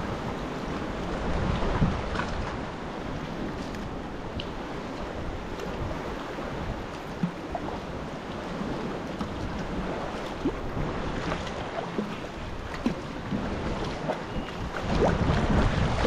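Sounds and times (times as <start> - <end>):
water lapping around a kayak: 0.0 - 16.0
wind buffeting microphone: 0.0 - 16.0.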